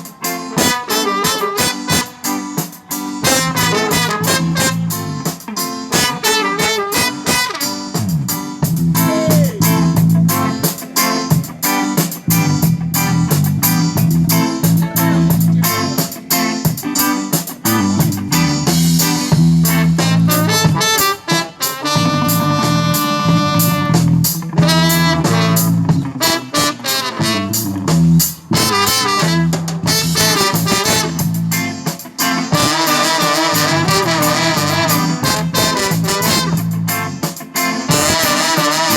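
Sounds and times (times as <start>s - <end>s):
live band music: 0.0s - 38.9s.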